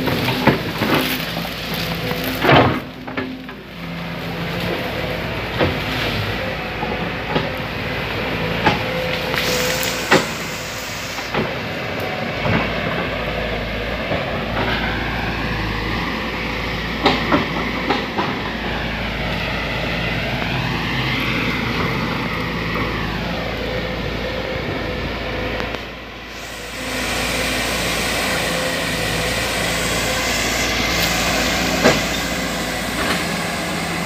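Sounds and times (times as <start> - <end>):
excavator diesel engine running: 0.0 - 34.0
hydraulic whine: 0.0 - 34.0.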